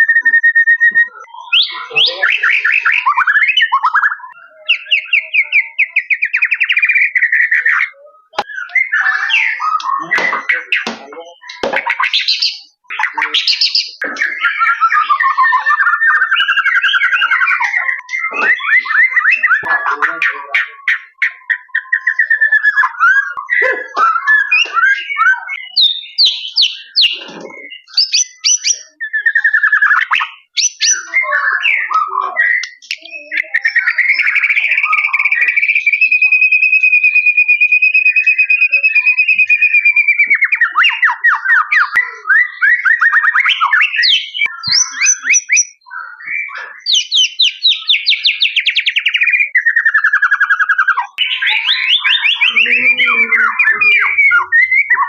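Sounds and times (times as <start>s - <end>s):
bird singing whistles and trills: 0.0s - 55.0s.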